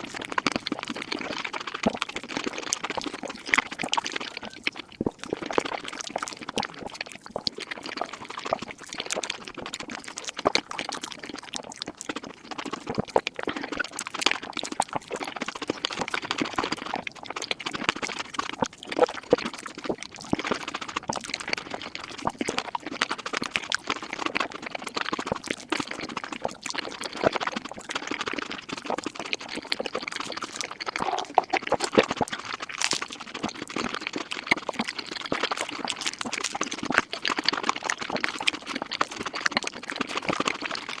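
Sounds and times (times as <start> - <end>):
sped-up wet chewing and smacking: 0.0 - 41.0.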